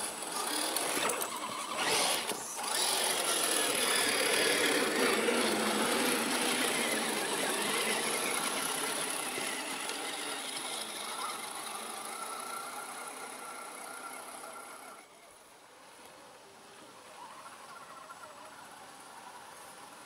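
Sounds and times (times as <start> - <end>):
small electric motors whining: 0.0 - 20.0.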